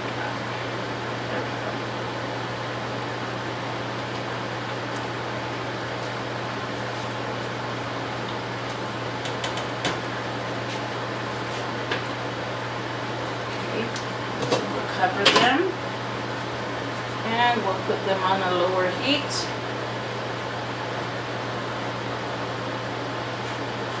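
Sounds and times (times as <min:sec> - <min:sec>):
whirring hum and hiss: 0:00.0 - 0:24.0.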